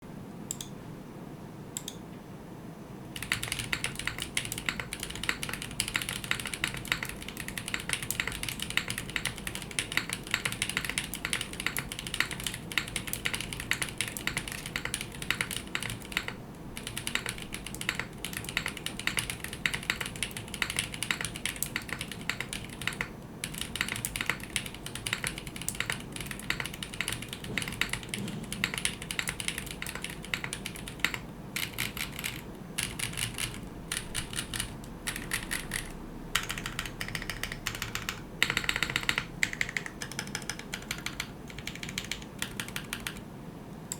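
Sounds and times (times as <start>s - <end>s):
mechanical keyboard typing: 3.2s - 43.3s.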